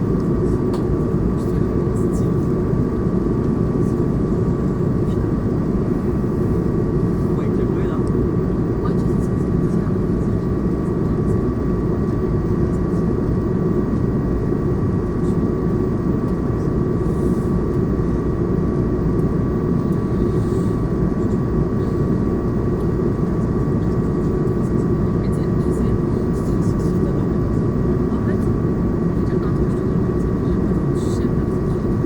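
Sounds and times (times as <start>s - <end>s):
airplane cabin noise: 0.0s - 32.0s.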